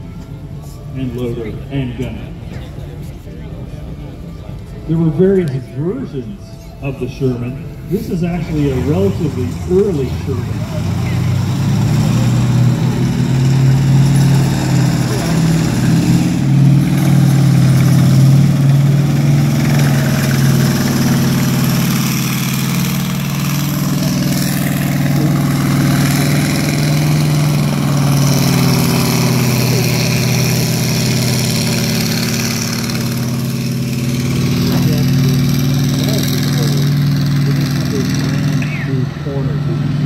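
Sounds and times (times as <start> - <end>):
tank engine droning: 0.0 - 40.0.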